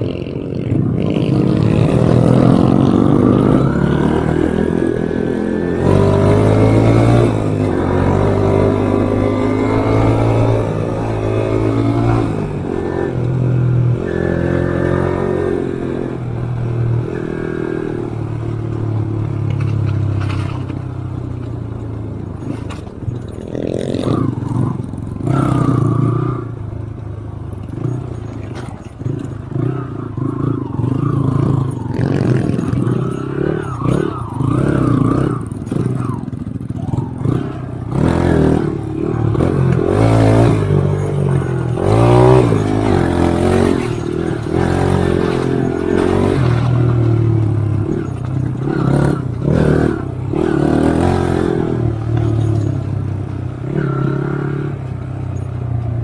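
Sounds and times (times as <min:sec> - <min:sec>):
bike clattering and scraping: 0:00.0 - 0:56.0
motorcycle engine revving: 0:00.0 - 0:56.0.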